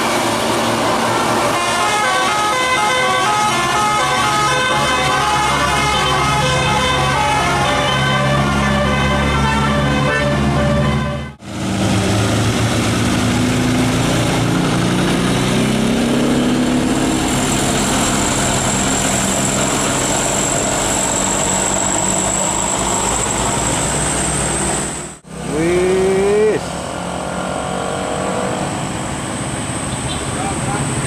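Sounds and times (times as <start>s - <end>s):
bus engine accelerating: 0.0s - 31.0s
road noise: 0.0s - 31.0s.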